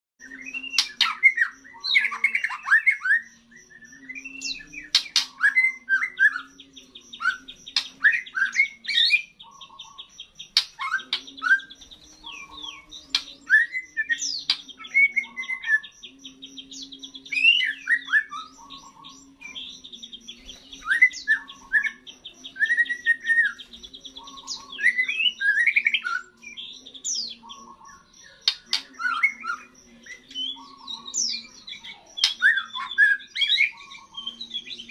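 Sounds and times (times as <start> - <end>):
songbird whistling and chirping: 0.2 - 34.9.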